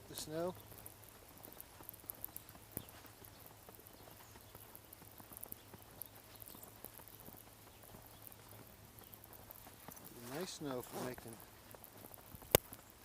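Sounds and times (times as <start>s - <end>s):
crunching of snow: 0.0s - 13.0s.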